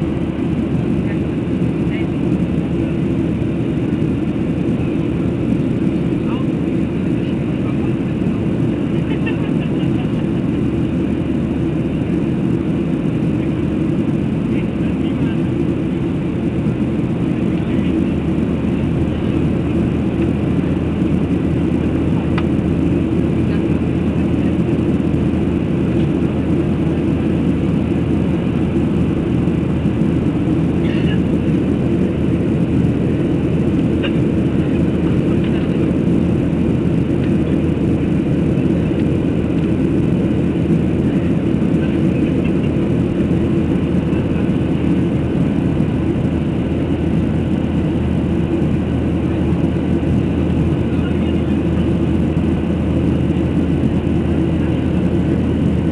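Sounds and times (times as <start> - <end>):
airplane taking off: 0.0 - 55.9.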